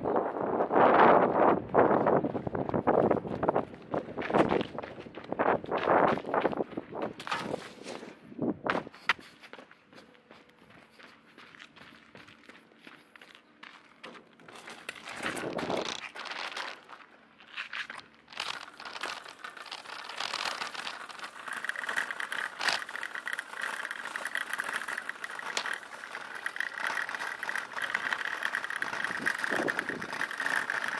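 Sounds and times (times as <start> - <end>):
bike rattling over brick paving: 1.4 - 9.0, 13.3 - 30.9.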